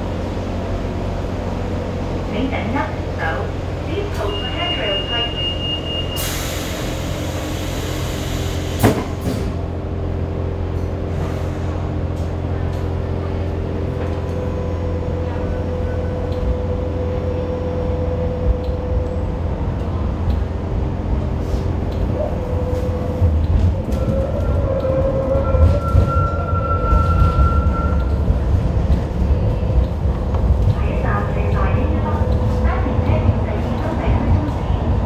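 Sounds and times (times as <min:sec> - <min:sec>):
light rail car hum and rumble: 0:00.0 - 0:35.0.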